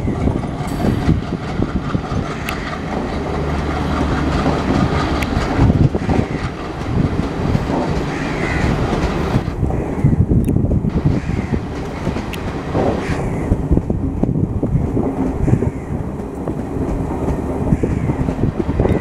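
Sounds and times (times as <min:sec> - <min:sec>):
wheels clattering over rail joints: 0:00.0 - 0:09.6, 0:10.9 - 0:19.0
train coaches rumbling past: 0:00.0 - 0:19.0.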